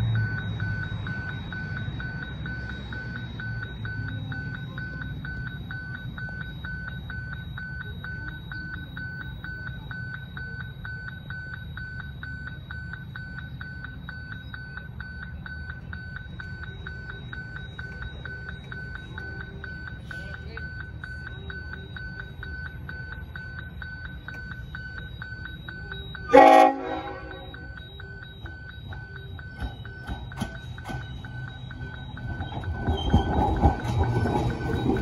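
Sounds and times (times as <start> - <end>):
level crossing warning bell beeping: 0.0 - 35.0.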